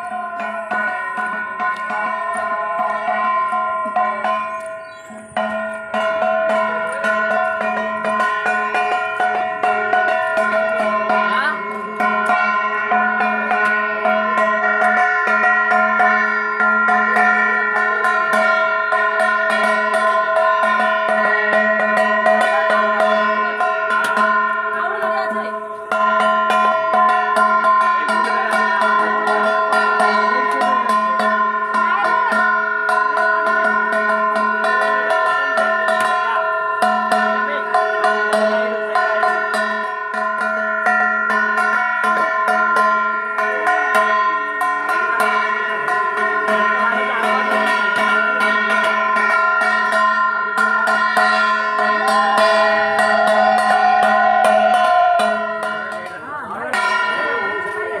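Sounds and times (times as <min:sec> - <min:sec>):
bells ringing: 0:00.0 - 0:58.0.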